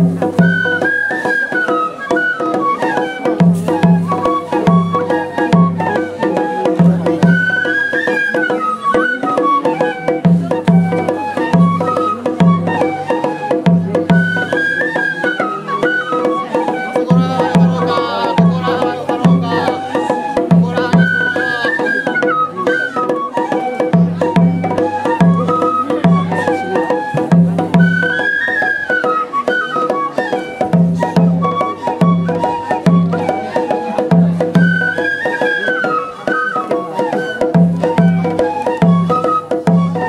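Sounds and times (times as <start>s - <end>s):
flutes playing gliding melody: 0.0s - 40.0s
taiko drum beating: 0.0s - 40.0s.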